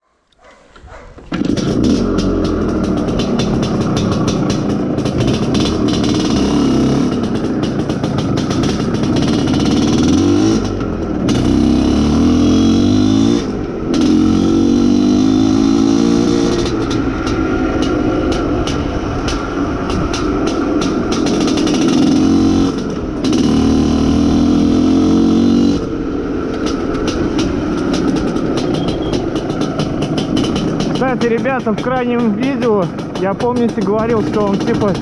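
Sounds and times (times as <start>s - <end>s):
two-stroke motorcycle engine running: 1.2s - 35.0s.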